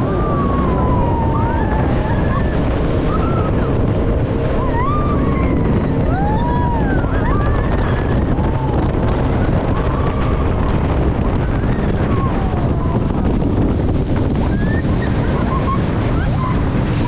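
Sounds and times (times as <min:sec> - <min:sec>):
jet boat engine and water jet: 0:00.0 - 0:17.0
wind buffeting microphone: 0:00.0 - 0:17.0.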